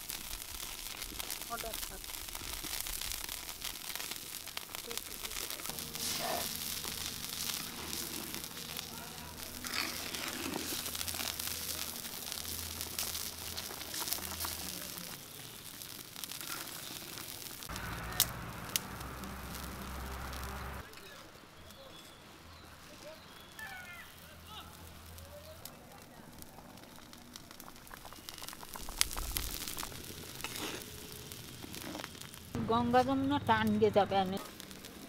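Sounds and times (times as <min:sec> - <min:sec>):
curry bubbling and sizzling: 0:00.0 - 0:35.0.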